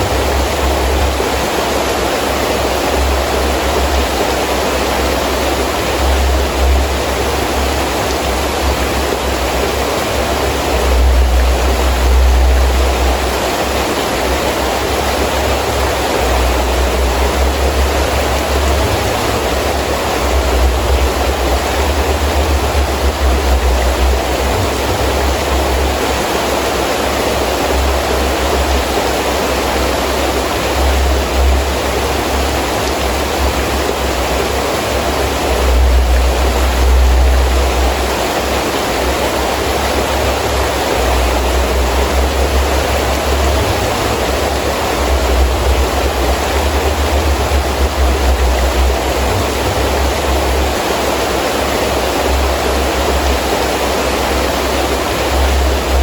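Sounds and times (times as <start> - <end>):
heavy rain falling: 0.0 - 56.0
gusty wind rumble: 5.0 - 56.0.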